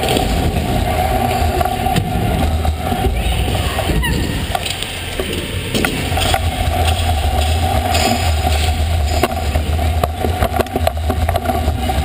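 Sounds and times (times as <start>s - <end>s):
scooter wheels rolling: 0.0s - 12.0s.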